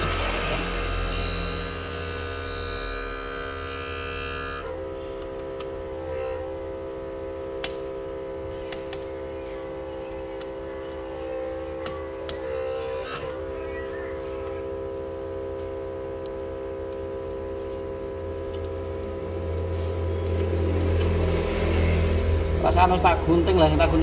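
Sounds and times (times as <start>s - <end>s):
steady held tones: 0.0s - 24.0s.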